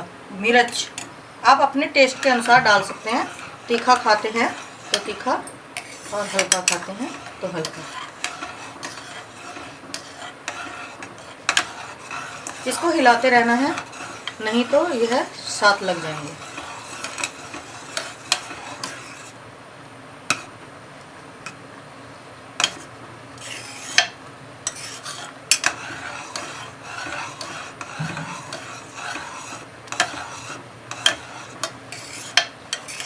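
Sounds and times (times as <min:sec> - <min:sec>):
spoon stirring rice in pot: 0:00.7 - 0:19.4, 0:22.6 - 0:33.0.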